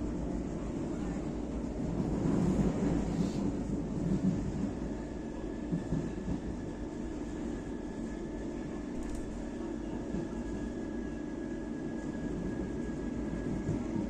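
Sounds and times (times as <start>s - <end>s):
passenger train rumbling: 0.0s - 14.0s.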